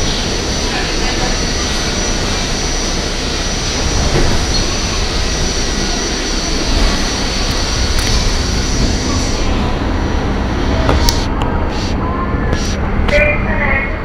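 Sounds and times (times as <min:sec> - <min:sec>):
high whine: 0:00.0 - 0:14.0
wheels rumbling on rail: 0:00.0 - 0:14.0.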